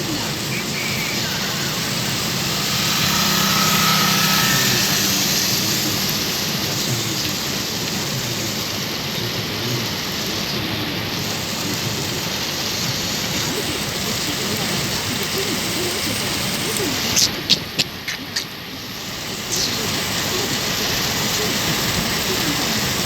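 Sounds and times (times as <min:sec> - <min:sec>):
low hum: 0:00.0 - 0:22.4
heavy rain hissing: 0:00.0 - 0:23.0.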